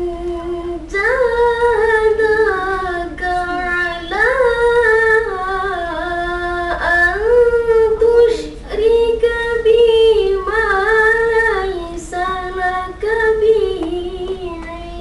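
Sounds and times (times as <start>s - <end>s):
boy reciting in melodic chant: 0.0s - 15.0s.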